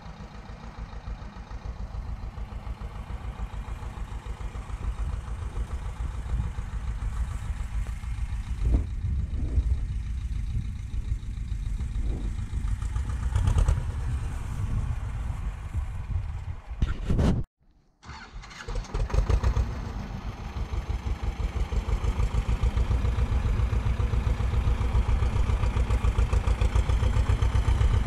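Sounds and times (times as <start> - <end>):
tractor diesel engine rumbling: 0.0 - 17.0, 18.0 - 28.0.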